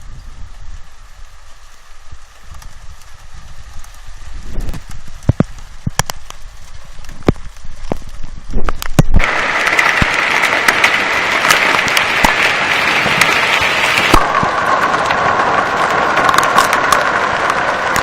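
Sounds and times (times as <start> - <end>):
hailstones striking: 0.0 - 18.0
heavy rain: 0.0 - 18.0.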